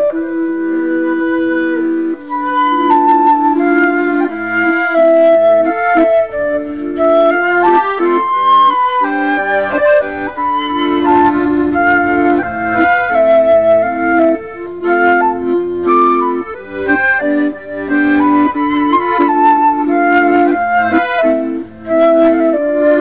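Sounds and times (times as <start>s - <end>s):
accordion chords: 0.0s - 23.0s
flute melody: 0.0s - 23.0s.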